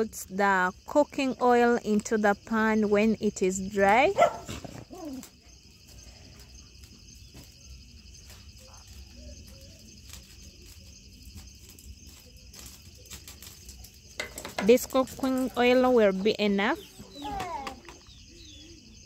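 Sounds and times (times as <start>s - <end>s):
wood fire crackling: 0.0s - 18.8s
crickets chirring: 0.0s - 19.0s.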